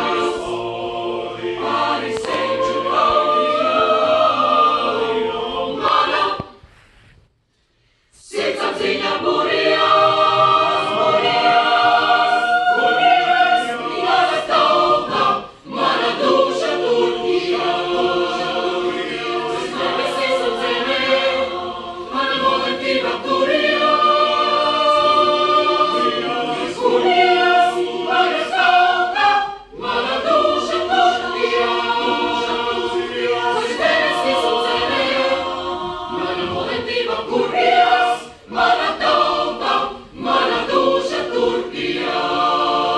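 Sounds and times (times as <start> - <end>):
mixed choir singing a cappella: 0.0 - 6.8, 8.1 - 42.9.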